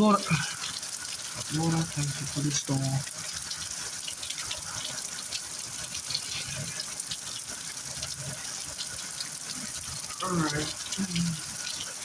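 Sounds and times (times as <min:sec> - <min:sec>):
heavy rain pouring: 0:00.0 - 0:12.0
raindrops splashing: 0:00.0 - 0:12.0.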